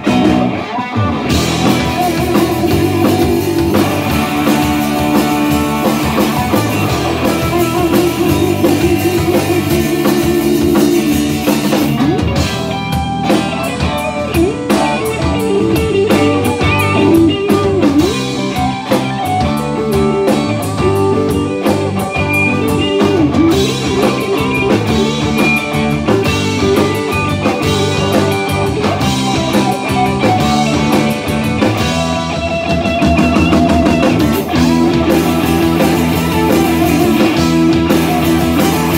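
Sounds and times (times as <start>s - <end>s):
blues rock band playing: 0.0s - 38.9s
lead guitar bending notes: 0.0s - 38.9s.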